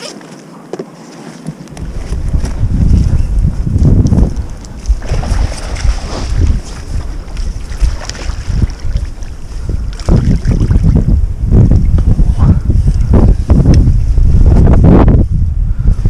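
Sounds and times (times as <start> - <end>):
wind buffeting microphone: 1.5 - 16.0.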